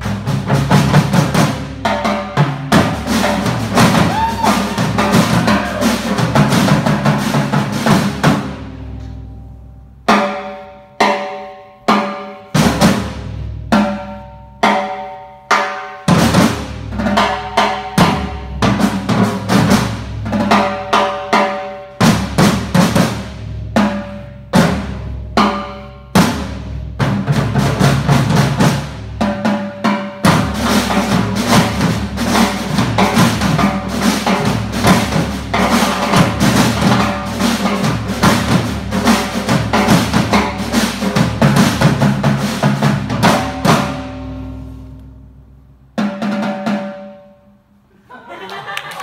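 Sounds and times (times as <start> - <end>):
percussion ensemble playing drums: 0.0 - 9.0, 10.0 - 44.8, 46.0 - 47.3.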